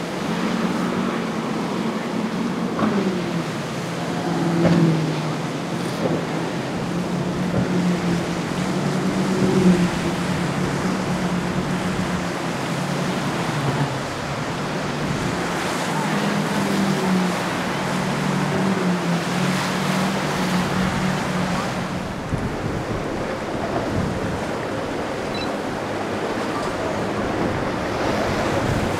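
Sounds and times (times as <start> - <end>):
motorboat engines droning: 0.0 - 28.9
waves washing: 0.0 - 28.9
wind: 0.0 - 28.9.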